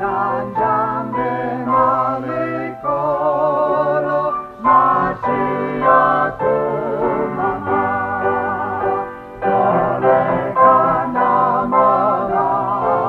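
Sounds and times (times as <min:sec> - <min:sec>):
people singing a hymn: 0:00.0 - 0:13.0.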